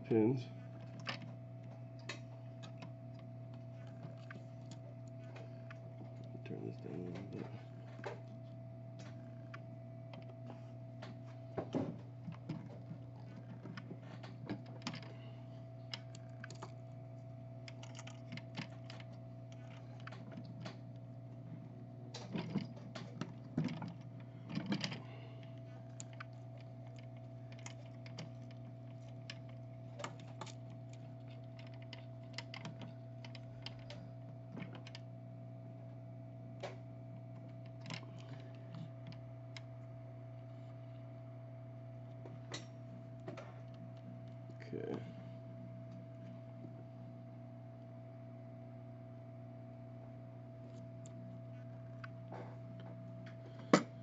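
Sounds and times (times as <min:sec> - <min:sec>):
faint thin whine: 0:00.0 - 0:54.0
low electrical hum: 0:00.0 - 0:54.0.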